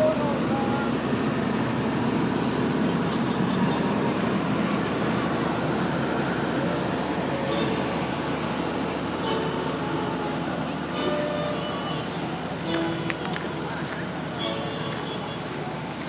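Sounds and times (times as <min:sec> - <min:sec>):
train carriage running noise: 0:00.0 - 0:16.0.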